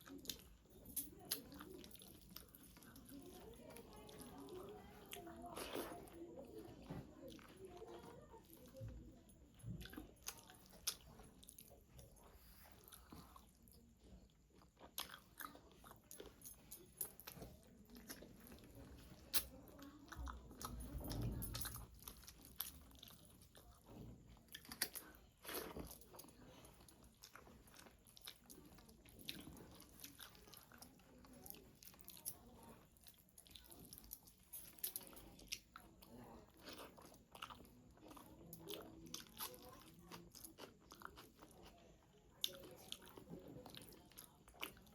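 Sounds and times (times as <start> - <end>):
person chewing and crunching: 0.0 - 44.9.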